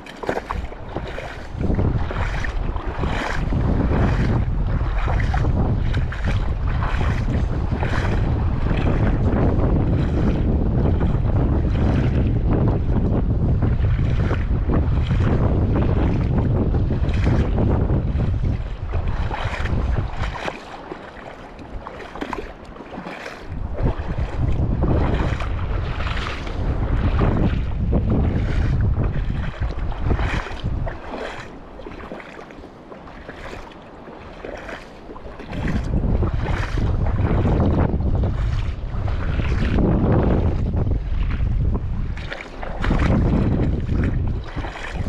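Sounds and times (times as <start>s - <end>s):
water sloshing and splashing: 0.0s - 45.0s
wind buffeting the microphone: 0.0s - 45.0s.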